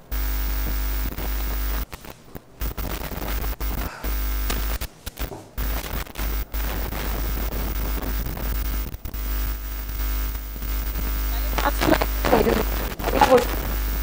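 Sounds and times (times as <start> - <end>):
electrical hum: 0.0 - 14.0
low mains hum: 0.0 - 14.0
static hiss: 0.0 - 14.0.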